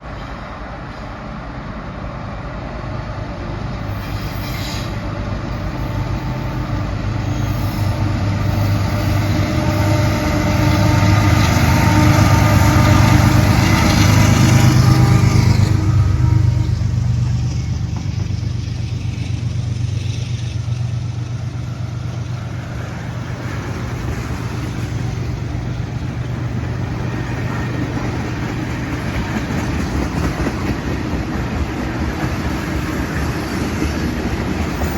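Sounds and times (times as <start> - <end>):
diesel locomotive passing: 0.0 - 34.9
freight cars rolling on rails: 0.0 - 34.9.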